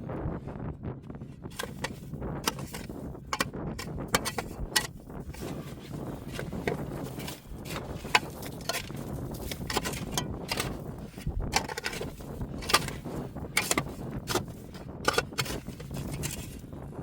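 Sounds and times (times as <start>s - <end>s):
low steady rumble: 0.0s - 17.0s
knocks cracks and crunches: 1.5s - 16.6s.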